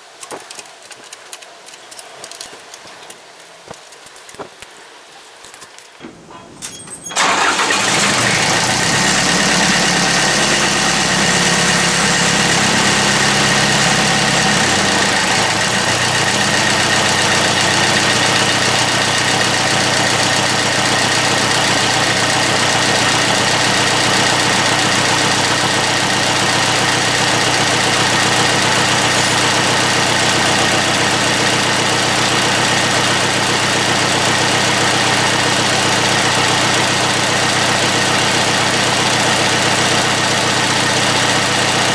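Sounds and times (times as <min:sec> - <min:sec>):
tractor diesel engine: 0:06.0 - 0:41.9.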